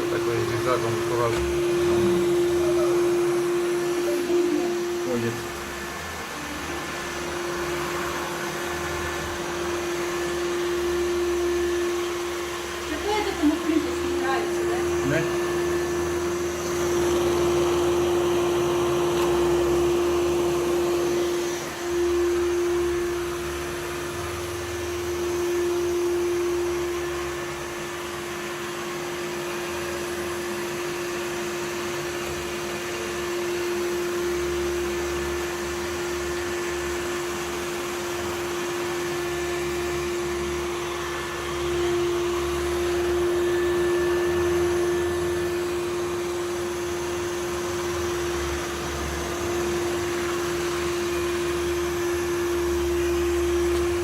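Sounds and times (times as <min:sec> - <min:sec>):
robot vacuum running: 0:00.0 - 0:54.0.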